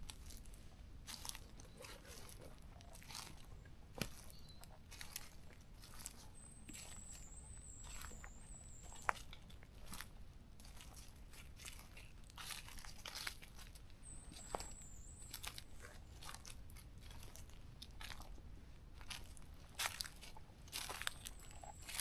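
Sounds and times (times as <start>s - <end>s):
footsteps crunching on forest floor: 0.0s - 18.4s, 19.0s - 22.0s.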